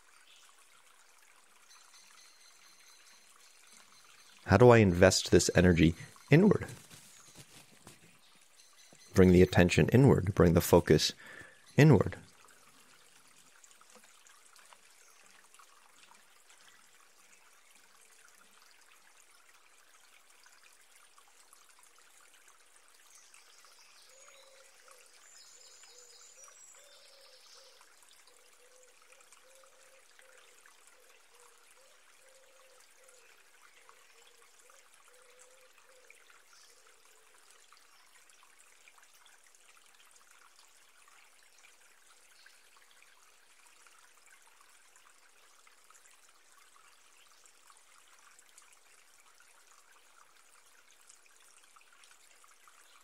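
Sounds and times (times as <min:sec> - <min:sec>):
trickle of running water: 0:00.0 - 0:53.0.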